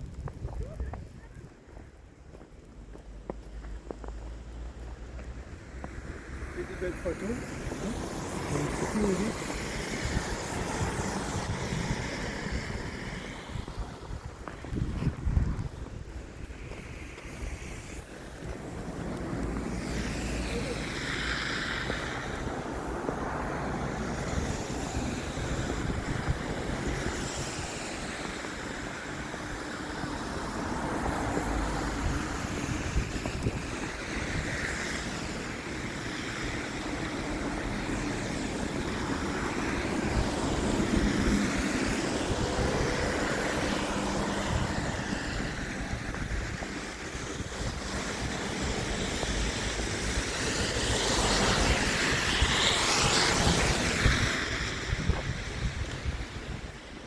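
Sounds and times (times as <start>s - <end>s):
traffic: 0.0s - 57.0s
wind: 0.0s - 57.0s.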